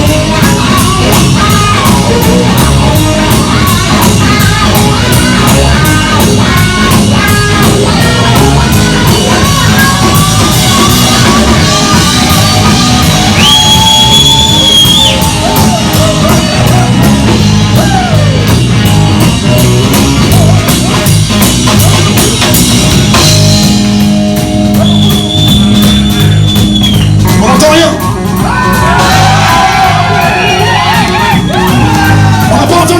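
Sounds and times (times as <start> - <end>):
bass: 0.0 - 32.9
drums: 0.0 - 32.9
electric guitar bending notes: 0.0 - 32.9.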